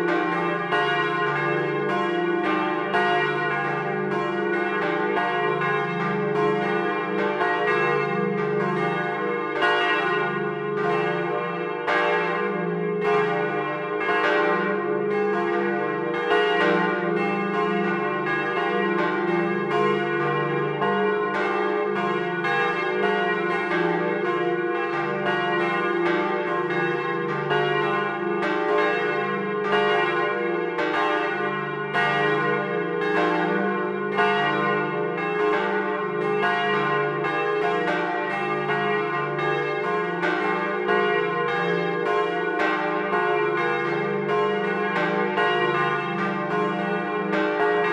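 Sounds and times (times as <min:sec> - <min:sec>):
church bells ringing in a peal: 0:00.0 - 0:47.9.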